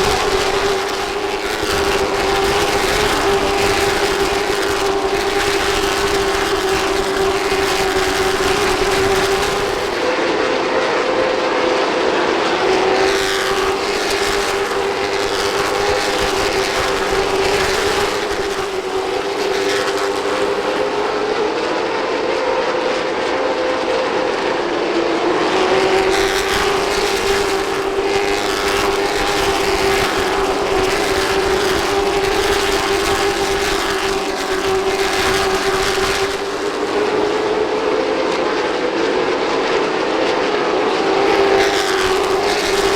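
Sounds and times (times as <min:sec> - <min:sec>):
race car engines at high revs: 0:00.0 - 0:42.9.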